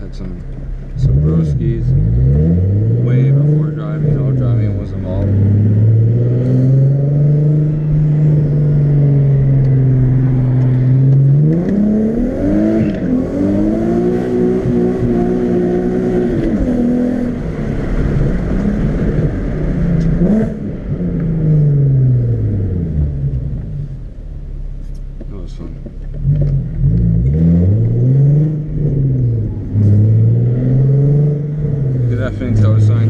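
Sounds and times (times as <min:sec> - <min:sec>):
car engine revving hard: 0:01.0 - 0:23.4, 0:26.3 - 0:33.0.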